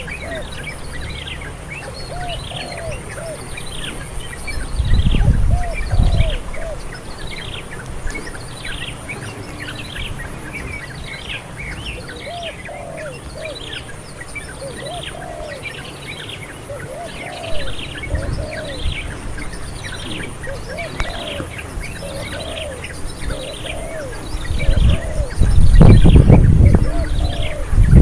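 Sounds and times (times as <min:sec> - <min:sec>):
birds chirping: 0:00.0 - 0:28.0
lower arched bird call: 0:00.0 - 0:28.0.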